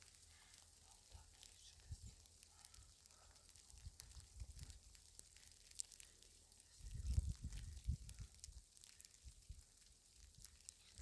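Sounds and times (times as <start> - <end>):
faint low rumble: 0.0 - 11.0.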